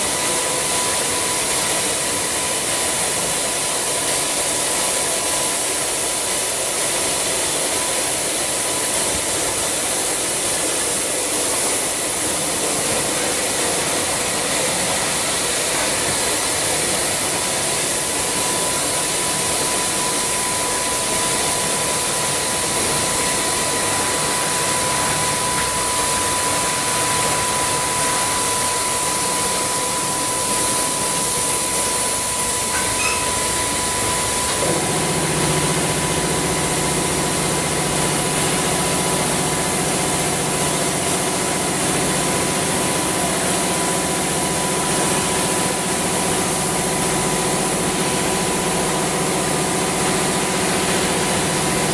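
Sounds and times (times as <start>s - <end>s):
high-pressure water spray hissing: 0.0s - 51.9s
thin steady whine: 0.0s - 51.9s.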